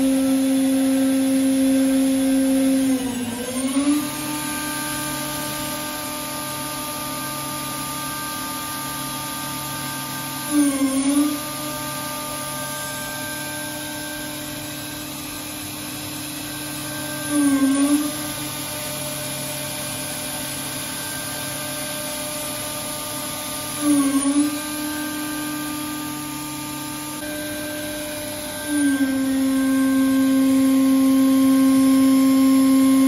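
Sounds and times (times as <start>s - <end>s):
machine spindle whine: 0.0s - 33.0s.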